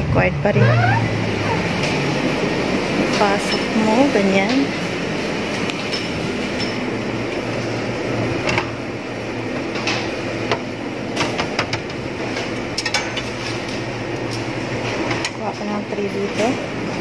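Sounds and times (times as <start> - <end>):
cooling equipment hum: 0.0 - 17.0.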